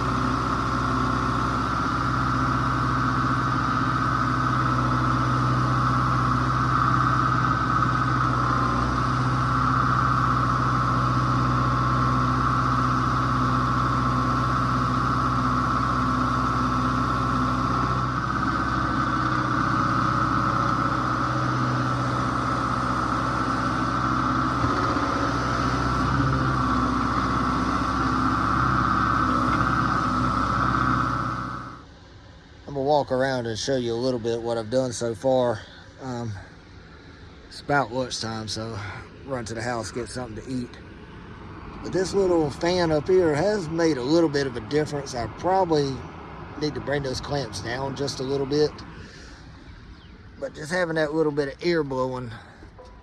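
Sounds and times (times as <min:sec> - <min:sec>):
high-pitched whine: 0:00.0 - 0:53.0
tractor engine running: 0:00.0 - 0:53.0.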